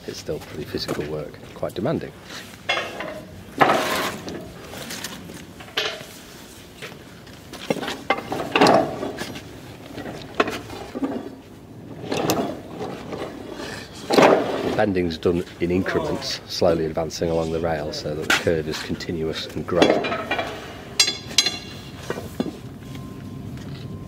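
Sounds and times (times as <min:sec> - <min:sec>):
metallic clanks and creaks: 0:00.7 - 0:06.2, 0:06.8 - 0:15.5, 0:17.2 - 0:24.0.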